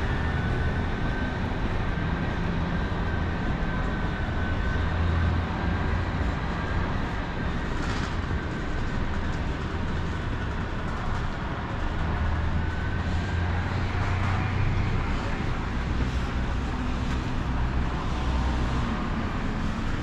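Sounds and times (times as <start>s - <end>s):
train rumbling by: 0.0s - 20.0s.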